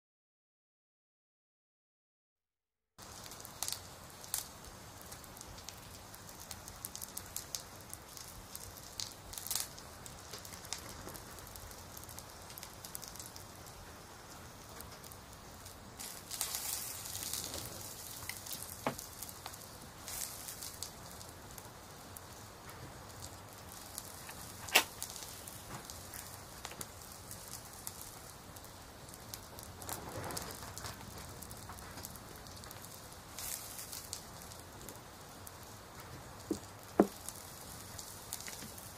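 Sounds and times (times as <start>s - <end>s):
soft hiss with crackles and pops: 3.0s - 38.9s.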